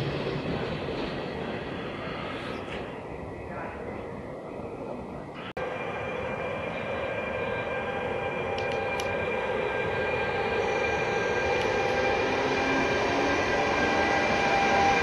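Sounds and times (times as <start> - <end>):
electric locomotive whine: 0.0 - 15.0
wheels rumbling on rail: 0.0 - 15.0.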